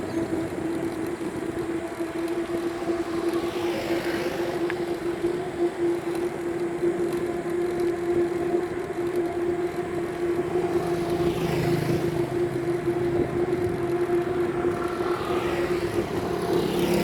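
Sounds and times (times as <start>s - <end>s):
road traffic: 0.0s - 17.0s
vehicle passing: 0.0s - 17.0s.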